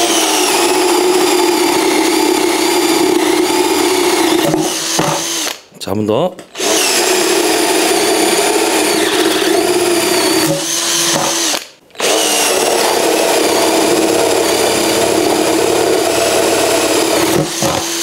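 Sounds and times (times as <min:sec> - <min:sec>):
cordless drill boring through wood: 0:00.0 - 0:05.6, 0:06.5 - 0:18.0.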